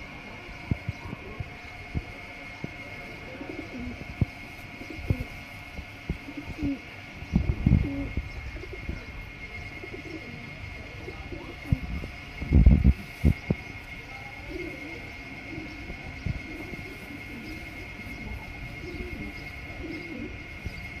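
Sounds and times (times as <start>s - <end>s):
faint high whine: 0.0s - 21.0s
pigeons cooing: 0.0s - 21.0s.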